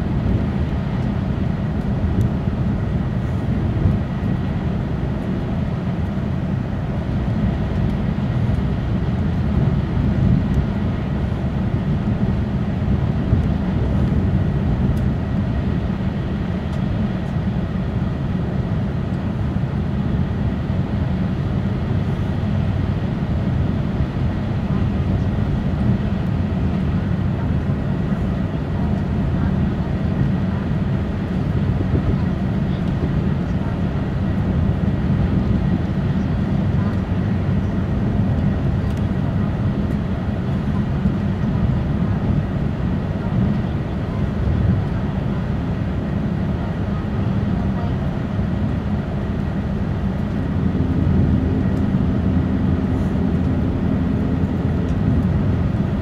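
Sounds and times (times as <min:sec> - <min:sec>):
train running on track rumble: 0:00.0 - 0:56.0.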